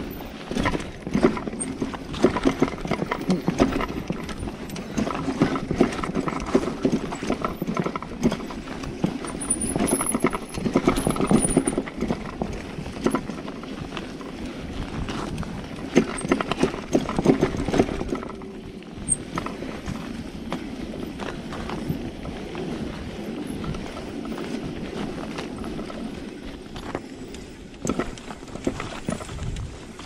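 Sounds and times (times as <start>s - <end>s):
bicycle rattling and clattering: 0.0s - 30.0s
tyres rolling on dirt: 0.0s - 30.0s.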